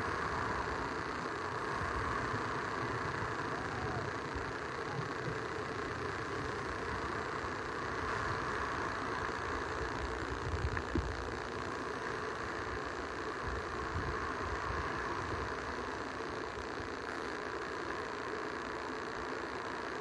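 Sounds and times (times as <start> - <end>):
surf at shoreline: 0.0 - 20.0.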